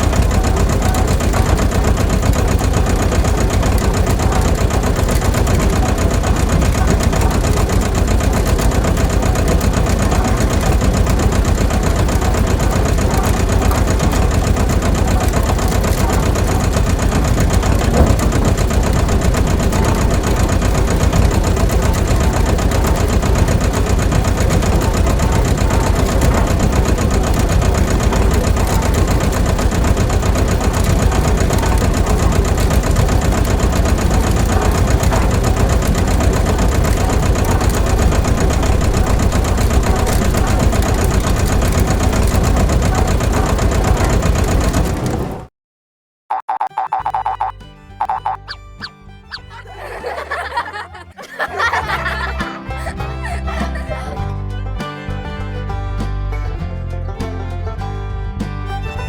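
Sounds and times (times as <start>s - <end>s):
small motor running: 0.0s - 45.4s, 46.6s - 54.2s.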